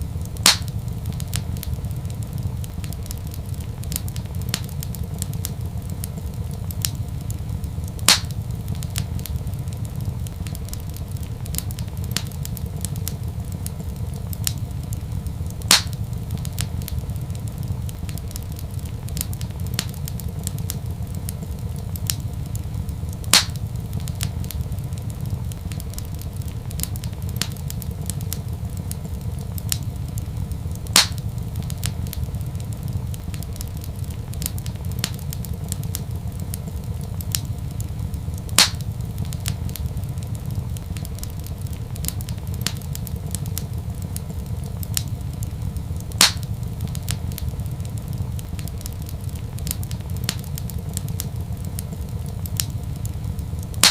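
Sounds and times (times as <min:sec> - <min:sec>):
fire popping sharply: 0:00.0 - 0:53.9
wood fire crackling: 0:00.0 - 0:53.9.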